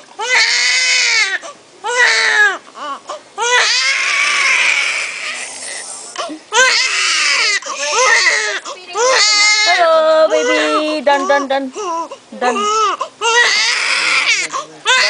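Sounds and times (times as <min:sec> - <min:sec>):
baby crying: 0:00.2 - 0:15.0.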